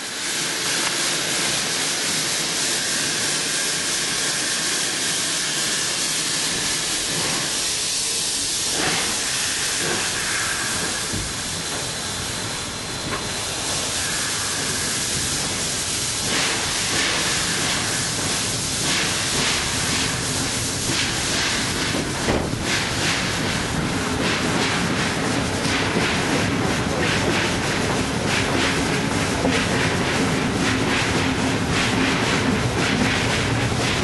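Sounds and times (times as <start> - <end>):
steam hissing: 0.0 - 34.0
rushing air: 2.4 - 34.0
rhythmic train beats: 6.5 - 34.0.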